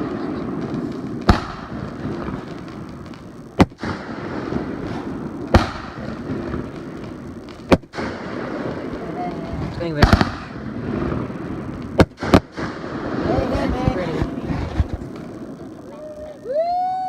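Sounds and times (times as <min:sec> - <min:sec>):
firework shell bursts: 0:00.0 - 0:15.4
continuous noise: 0:00.0 - 0:17.0.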